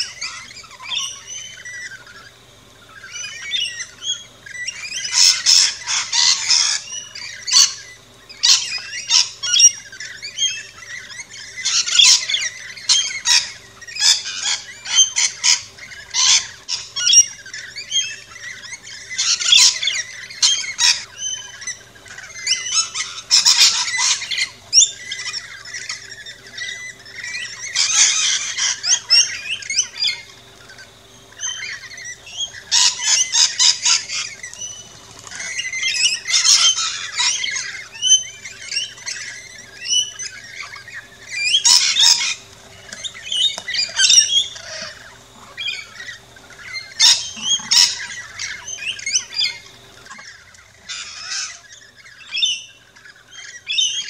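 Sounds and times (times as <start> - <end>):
lorikeets squawking and screeching: 0.0 - 54.0.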